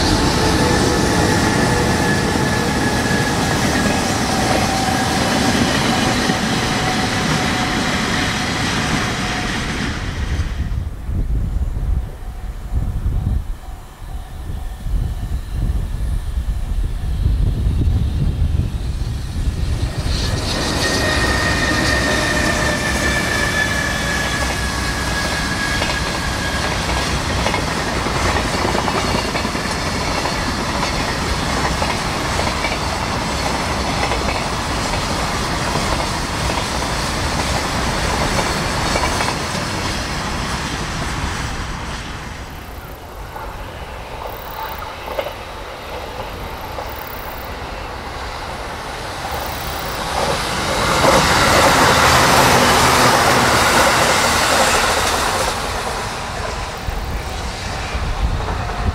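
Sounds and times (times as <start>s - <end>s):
electric train running: 0.0s - 58.9s
freight train rolling rumble: 0.0s - 58.9s.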